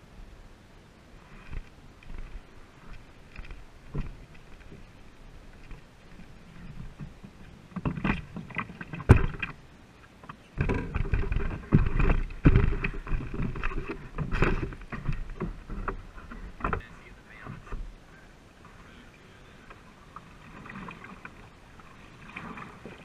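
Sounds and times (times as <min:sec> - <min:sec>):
paddle strokes splashing: 0:01.1 - 0:23.0
water washing along hull: 0:01.1 - 0:23.0.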